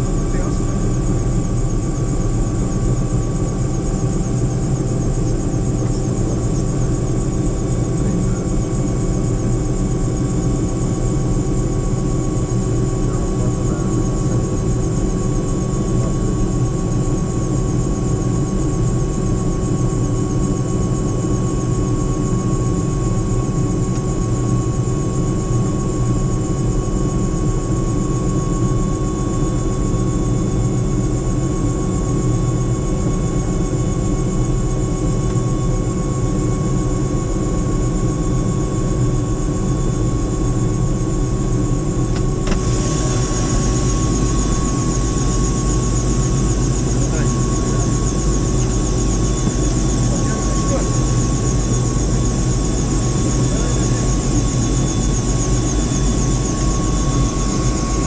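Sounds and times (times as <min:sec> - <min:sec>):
helicopter engine and rotor drone: 0:00.0 - 0:58.0
turbine high whine: 0:00.0 - 0:58.0.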